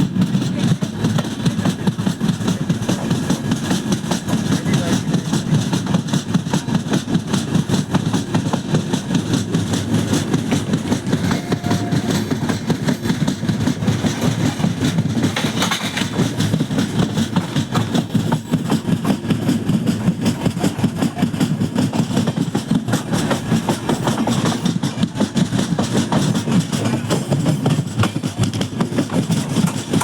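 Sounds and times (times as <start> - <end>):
train rumbling on track: 0.0 - 30.0
wheels clattering over rails: 0.0 - 30.0.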